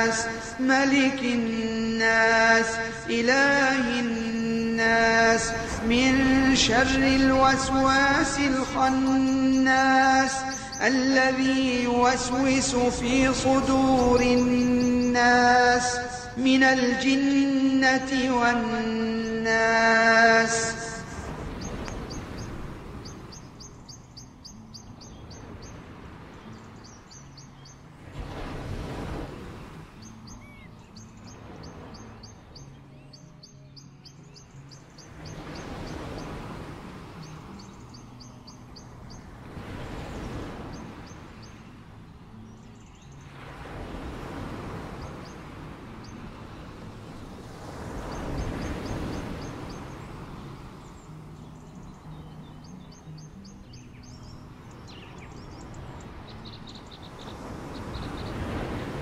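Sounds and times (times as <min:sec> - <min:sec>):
small waves washing on beach: 0:00.0 - 0:32.7, 0:34.4 - 0:59.0
birds chirping: 0:00.0 - 0:59.0.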